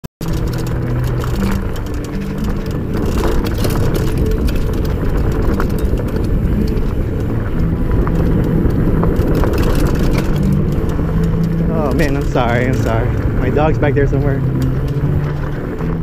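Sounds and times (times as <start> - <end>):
bike tyres crunching on gravel: 0.2 - 16.0
clicks and rattles: 0.2 - 16.0
wind rumble on microphone: 0.2 - 16.0.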